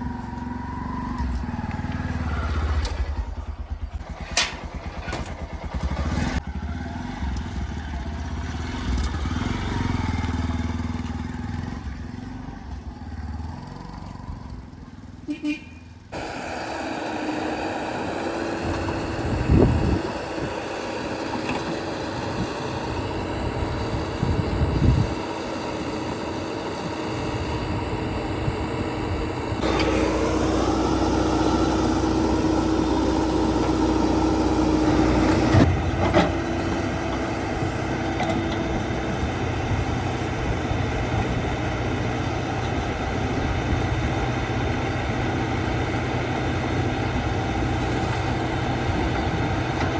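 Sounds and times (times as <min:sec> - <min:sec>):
diesel engine running and revving: 0:00.0 - 0:49.9.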